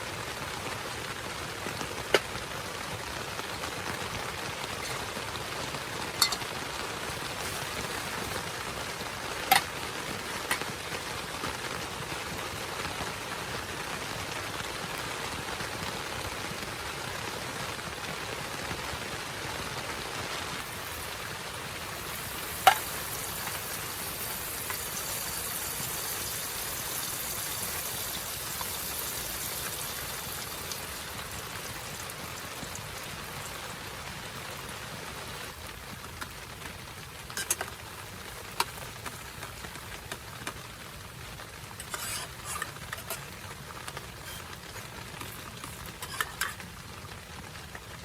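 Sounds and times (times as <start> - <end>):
rain hissing: 0.0 - 48.0.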